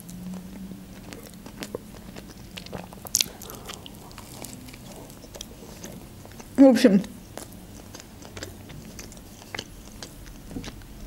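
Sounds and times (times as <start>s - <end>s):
chewing and crunching toast: 0.0s - 11.0s.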